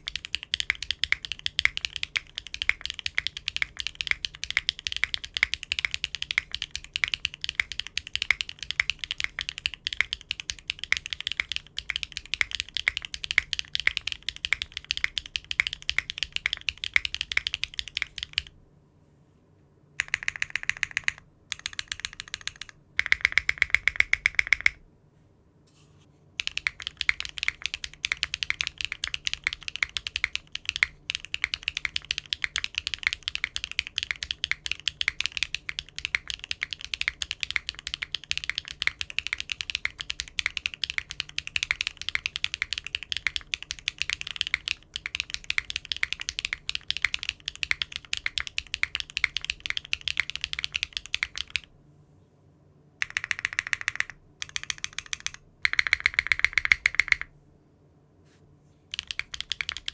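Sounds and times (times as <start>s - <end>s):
mechanical keyboard typing: 0.0s - 18.5s, 20.0s - 24.8s, 26.4s - 51.7s, 53.0s - 57.3s, 58.9s - 59.9s.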